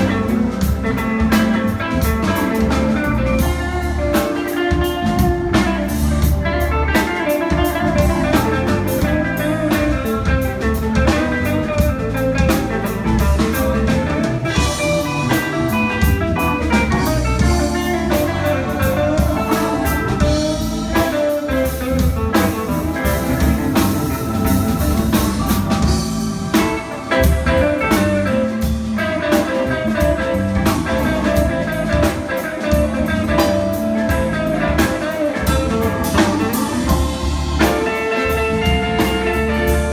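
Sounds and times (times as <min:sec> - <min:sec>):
drum kit: 0:00.0 - 0:39.9
electric bass: 0:00.0 - 0:39.9
electric guitar lines: 0:00.0 - 0:39.9.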